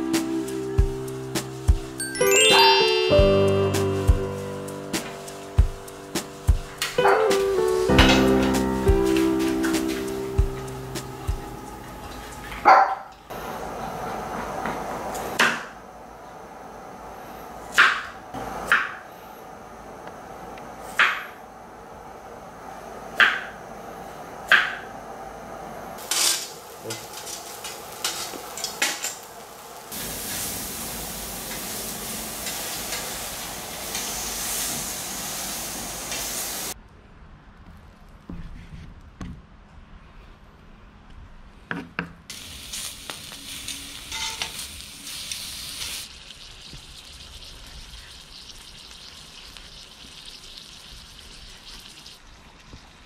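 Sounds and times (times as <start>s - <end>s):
steady hiss: 0.0s - 12.7s, 13.3s - 36.8s, 42.3s - 53.0s.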